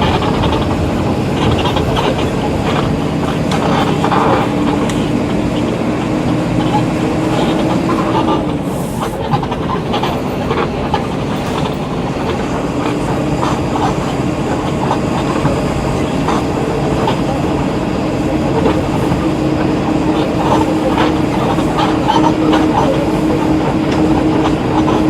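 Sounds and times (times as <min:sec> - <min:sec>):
bus engine drone: 0:00.0 - 0:25.0
vehicle clicks and rattles: 0:00.0 - 0:25.0.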